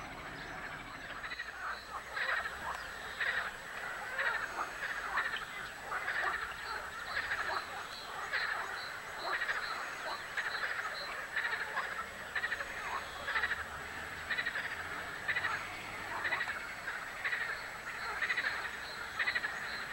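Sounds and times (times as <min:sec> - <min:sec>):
frogs croaking: 0:00.0 - 0:19.9.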